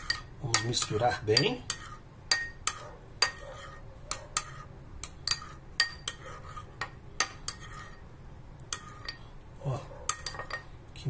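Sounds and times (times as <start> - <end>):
metal spoon clinking ceramic bowl: 0.0 - 8.0, 8.7 - 9.3, 10.1 - 10.7.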